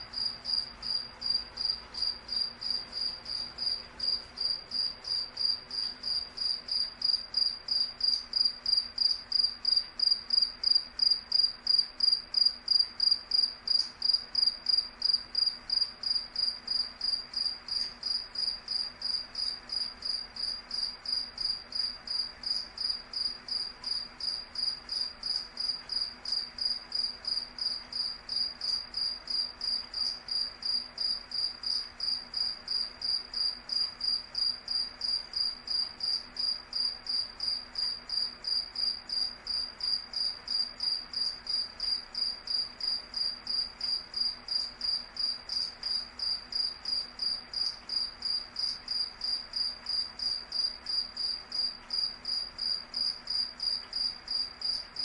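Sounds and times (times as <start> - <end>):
cricket chirping: 0.1 - 55.0.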